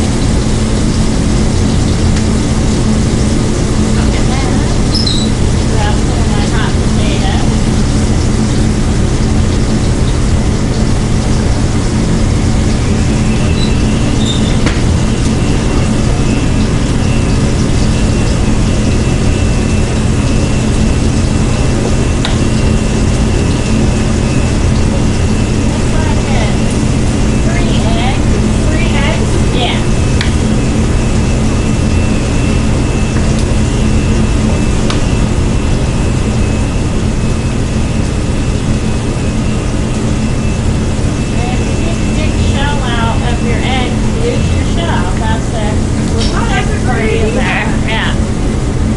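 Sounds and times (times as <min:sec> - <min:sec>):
kitchen equipment rumble and hum: 0:00.0 - 0:48.9
ventilation fan roaring: 0:00.0 - 0:48.9.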